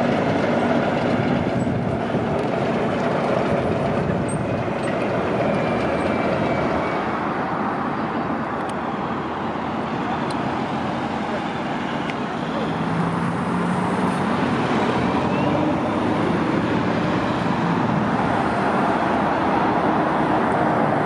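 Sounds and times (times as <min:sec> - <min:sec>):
vehicle engine hum and rumble: 0:00.0 - 0:21.0.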